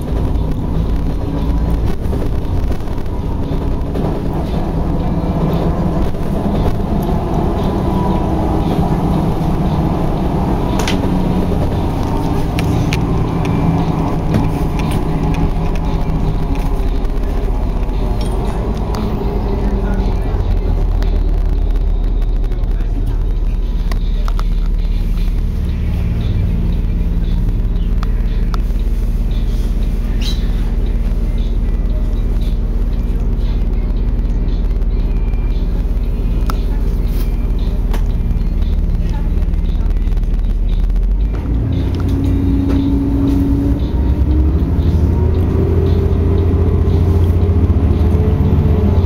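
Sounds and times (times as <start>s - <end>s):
car engine and road rumble: 0.0s - 49.0s.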